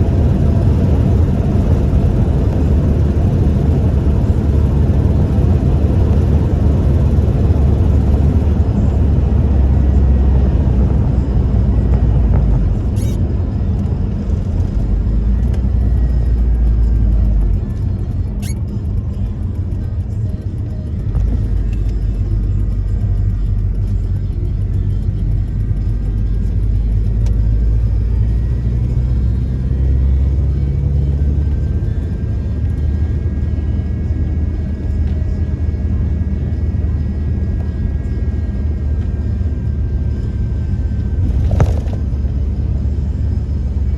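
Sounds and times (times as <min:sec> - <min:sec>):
pickup truck driving rumble: 0:00.0 - 0:43.9.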